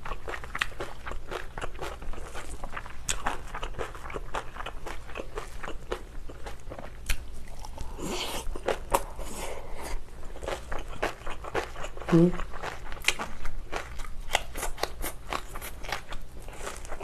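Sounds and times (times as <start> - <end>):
crunching and chewing cabbage: 0.0 - 17.0.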